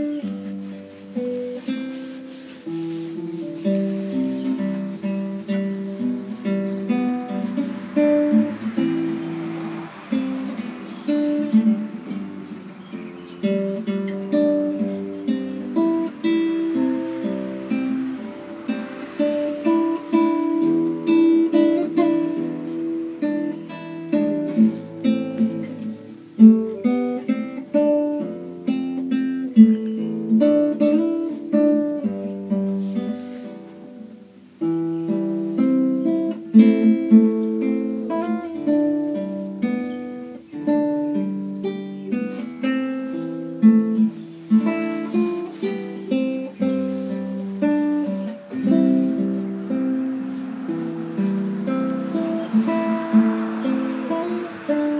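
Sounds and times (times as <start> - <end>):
classical guitar fingerstyle: 0.0 - 54.9.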